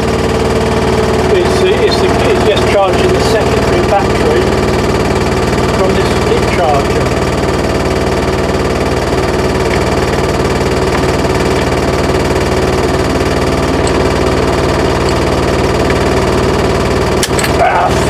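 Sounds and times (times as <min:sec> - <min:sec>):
engine ticking over at idle: 0:00.0 - 0:18.0.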